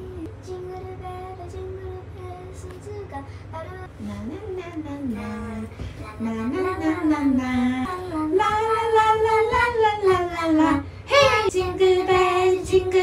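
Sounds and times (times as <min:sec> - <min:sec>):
high voice singing wordless melody: 0:00.0 - 0:13.0.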